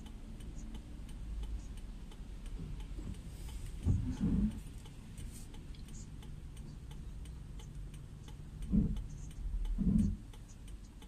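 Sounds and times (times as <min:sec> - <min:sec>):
raindrops ticking on car: 0:00.0 - 0:11.0.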